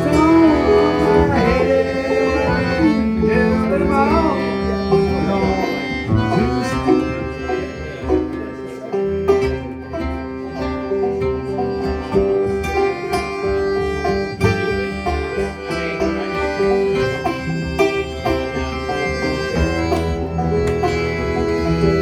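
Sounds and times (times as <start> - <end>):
accordion: 0.0 - 22.0
banjo plucking: 0.0 - 22.0
guitar: 0.0 - 22.0.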